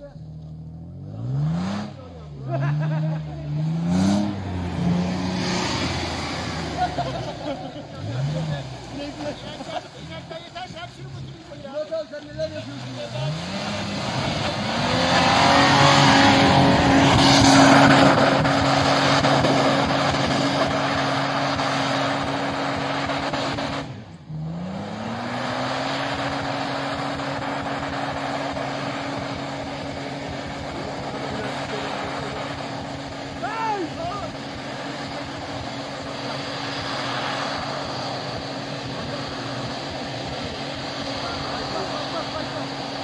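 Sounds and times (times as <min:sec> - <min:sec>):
car engine revving hard: 0:00.3 - 0:11.6, 0:12.3 - 0:43.0.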